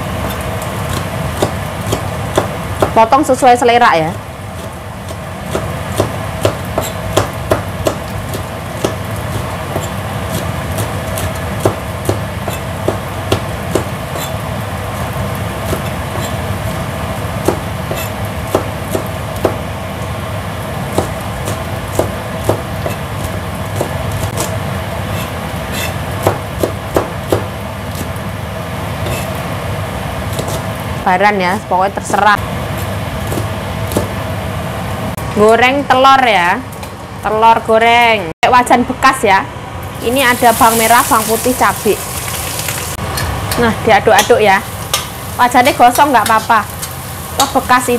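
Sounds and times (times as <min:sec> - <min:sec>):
steady background hum: 0:00.0 - 0:47.9.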